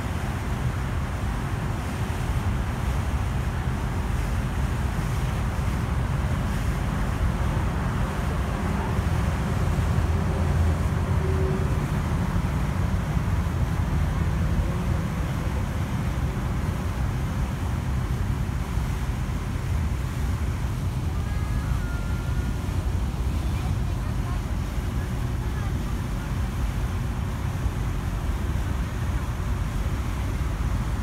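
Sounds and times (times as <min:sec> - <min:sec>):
ship engine rumble: 0:00.0 - 0:31.0
water rushing: 0:00.0 - 0:31.0
wind: 0:00.0 - 0:31.0.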